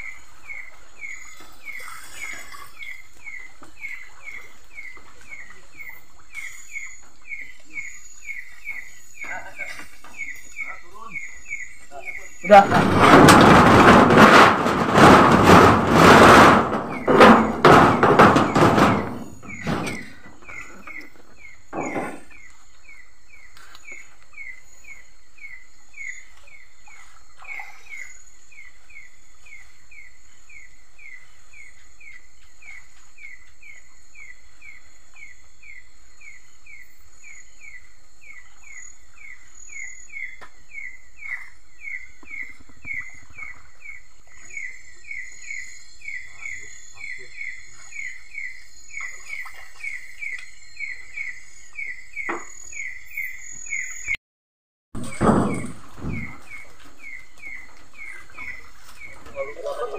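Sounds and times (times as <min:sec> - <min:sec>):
insect chirping: 0:00.0 - 0:54.2, 0:55.0 - 0:59.9.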